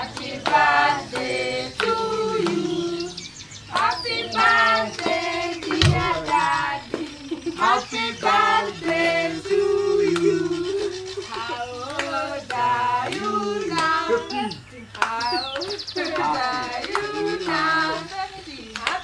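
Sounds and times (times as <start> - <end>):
hand clapping: 0.0 - 2.8, 3.7 - 19.0
adults and children singing: 0.0 - 19.0.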